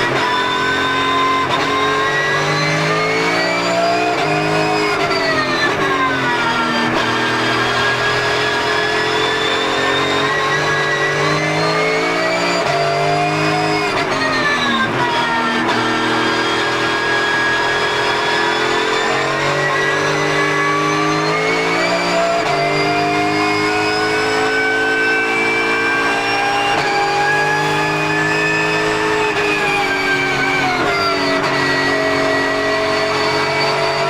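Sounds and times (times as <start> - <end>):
race car engine accelerating: 0.0 - 34.0.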